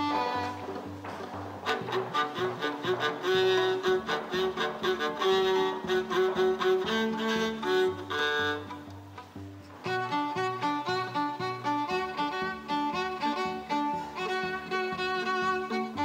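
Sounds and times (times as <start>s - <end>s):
string quartet playing: 0.0s - 16.0s.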